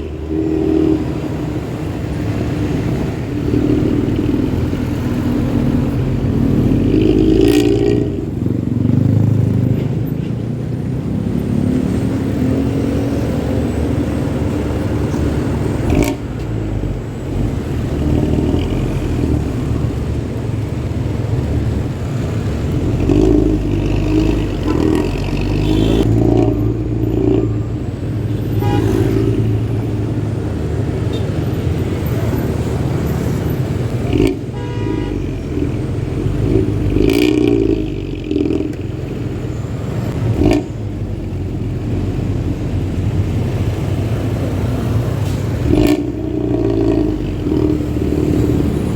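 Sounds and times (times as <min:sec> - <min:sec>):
bus diesel engine rumbling: 0:00.0 - 0:48.9.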